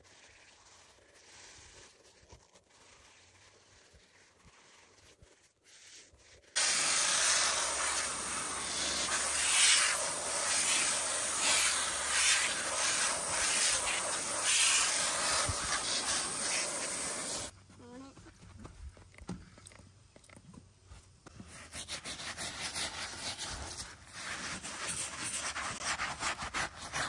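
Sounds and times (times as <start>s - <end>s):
stiff brush scrubbing: 0.0s - 17.5s, 21.4s - 27.0s.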